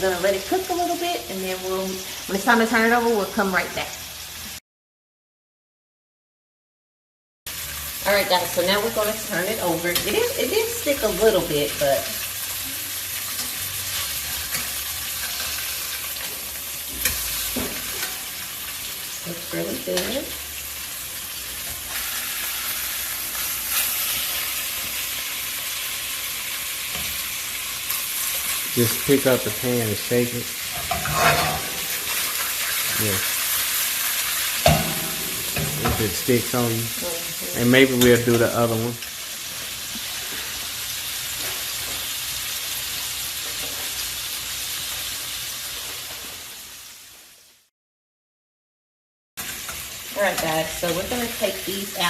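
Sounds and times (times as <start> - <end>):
fish sizzling in a frying pan: 0.0 - 4.6, 7.5 - 47.7, 49.4 - 52.0.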